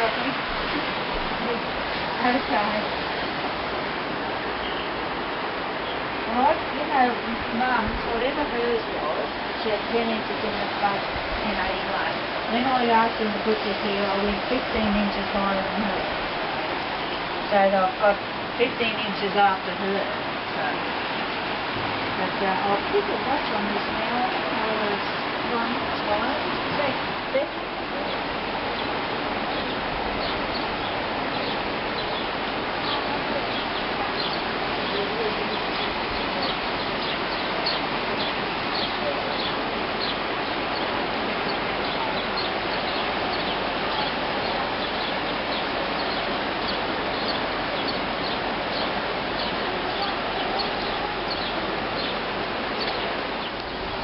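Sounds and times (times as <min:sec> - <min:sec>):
rushing floodwater: 0:00.0 - 0:54.0
small birds chirping: 0:04.6 - 0:08.9, 0:09.6 - 0:19.7, 0:22.3 - 0:54.0.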